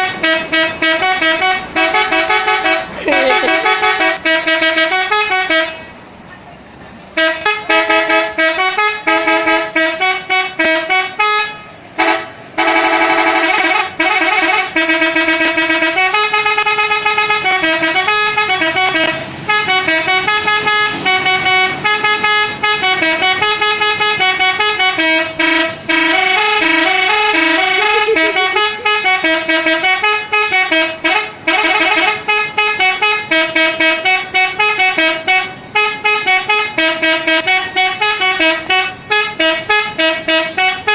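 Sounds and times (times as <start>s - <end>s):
musical bus air horn: 0.0s - 6.0s, 7.1s - 40.9s.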